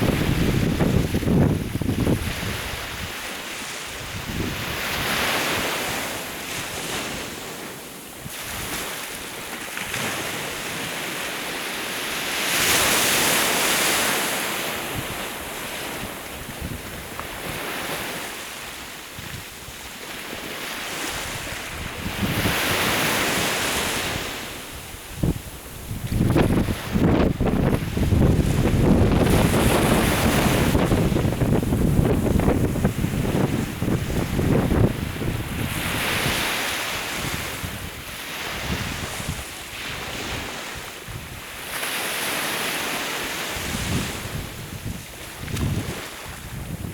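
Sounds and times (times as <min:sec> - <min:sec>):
wind on microphone: 0:00.0 - 0:07.6, 0:11.8 - 0:18.4, 0:19.1 - 0:46.9
sea waves washing onto shore: 0:00.0 - 0:46.9.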